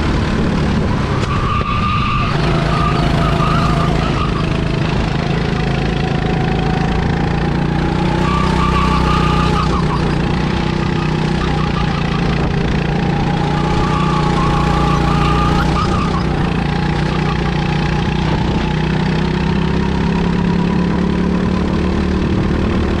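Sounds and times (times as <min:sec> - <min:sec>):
kart engine running hard: 0:00.0 - 0:23.0.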